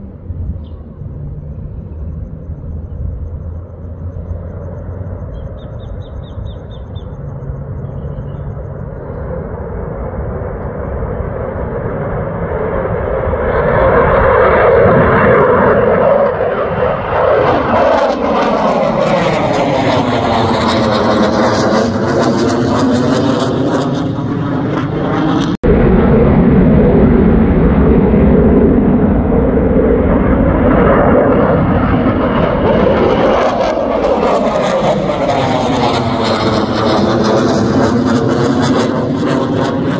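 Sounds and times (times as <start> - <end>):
fighter jet engine roar: 0.0 - 39.9.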